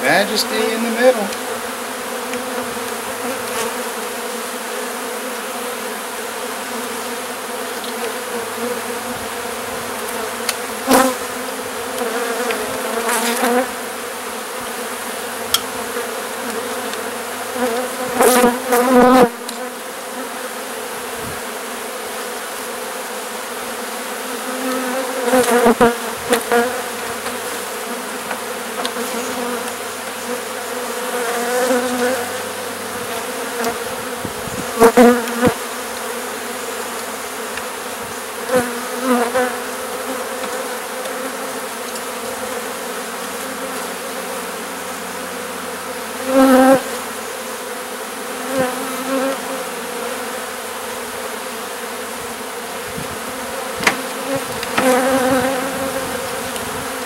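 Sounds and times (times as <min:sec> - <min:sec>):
bee swarm buzzing: 0:00.0 - 0:57.0
single bees flying close by: 0:00.0 - 0:57.0.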